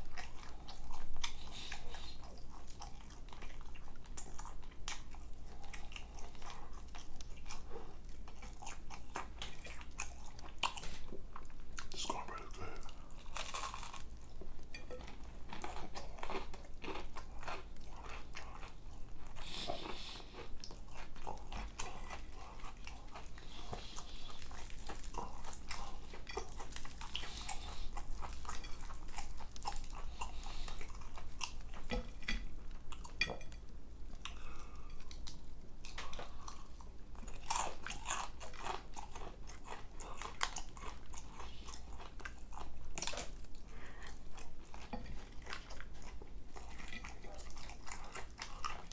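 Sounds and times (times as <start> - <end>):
person chewing crispy chicken: 0.0 - 33.3, 34.1 - 48.9.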